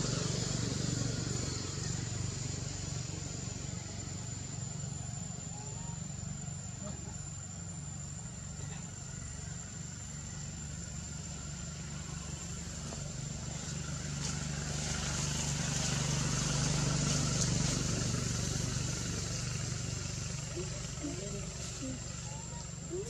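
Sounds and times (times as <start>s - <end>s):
distant vehicle engine hum: 0.0s - 23.0s.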